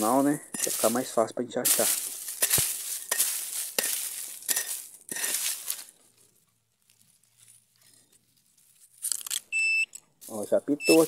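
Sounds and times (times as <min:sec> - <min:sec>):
dry leaves crunching and rustling: 0:00.0 - 0:09.4, 0:10.2 - 0:11.0.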